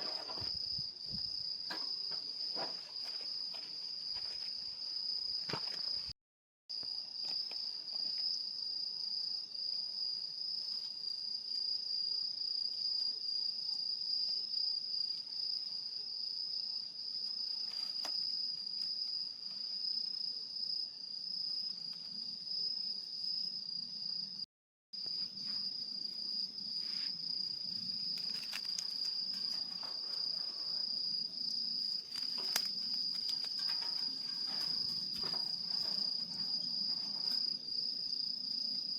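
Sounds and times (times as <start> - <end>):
crickets trilling: 0.0 - 6.1, 6.7 - 24.4, 25.0 - 38.9.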